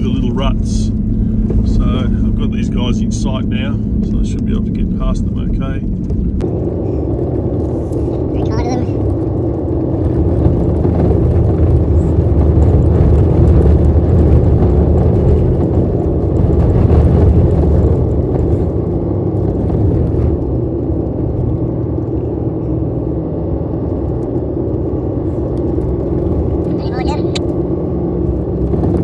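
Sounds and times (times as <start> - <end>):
engine running under load: 0.0 - 29.0.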